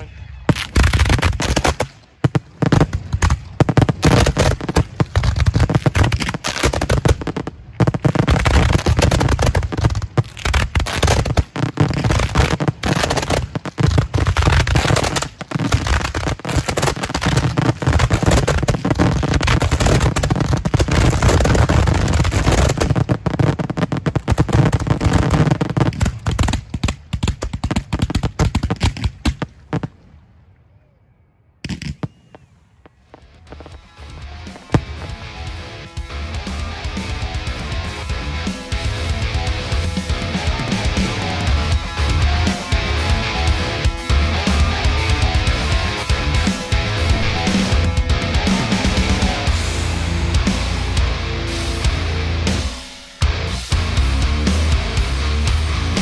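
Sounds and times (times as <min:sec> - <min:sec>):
fireworks barrage bangs: 0:00.5 - 0:30.4, 0:31.6 - 0:37.1, 0:39.4 - 0:49.9.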